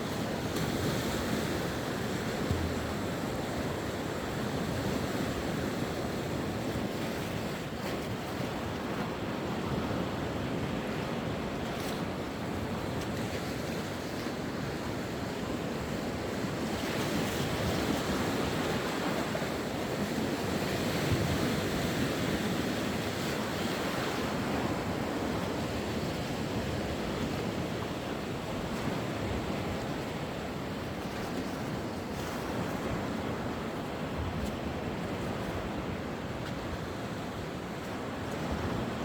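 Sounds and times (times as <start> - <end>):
sea waves breaking on shore: 0.0 - 39.0.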